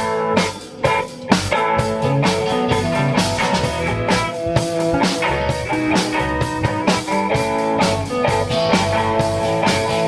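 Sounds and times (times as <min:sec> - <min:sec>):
rock band playing: 0:00.0 - 0:10.0.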